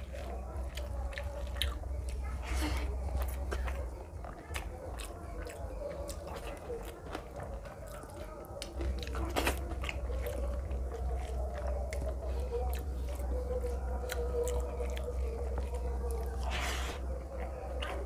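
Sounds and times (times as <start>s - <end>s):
person chewing food: 0.0s - 18.0s
steady low hum: 0.0s - 18.0s.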